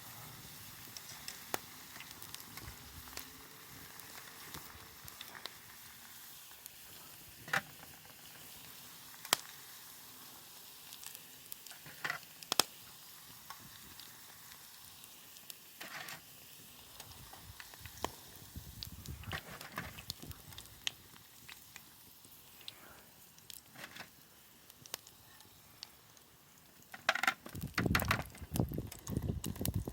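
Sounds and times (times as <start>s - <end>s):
campfire crackling: 0.0s - 29.9s.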